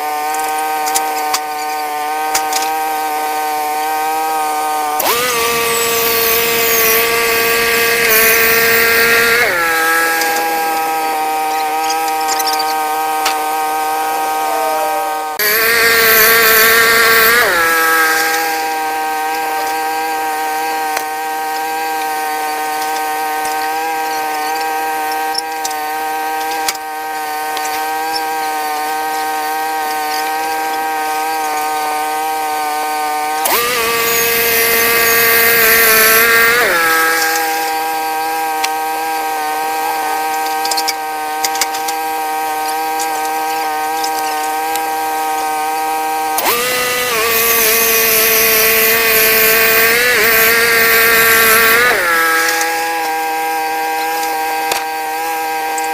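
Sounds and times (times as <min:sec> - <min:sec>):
sawing: 0:00.0 - 0:55.9
sawmill engine drone: 0:00.0 - 0:55.9.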